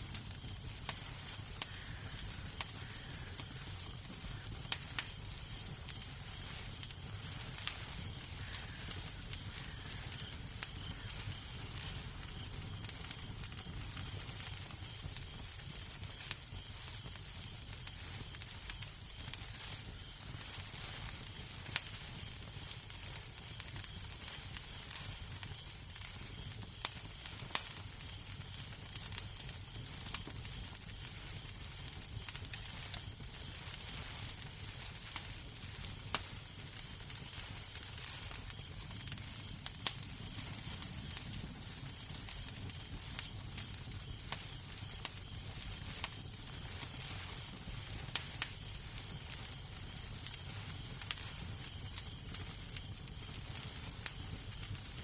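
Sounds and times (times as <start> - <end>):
fire hissing: 0.0 - 55.0
fireplace fire crackling: 0.0 - 55.0.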